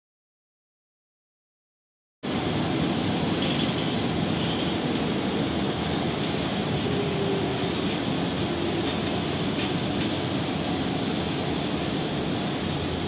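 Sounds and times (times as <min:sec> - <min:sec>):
bus engine and road noise: 0:02.2 - 0:13.0.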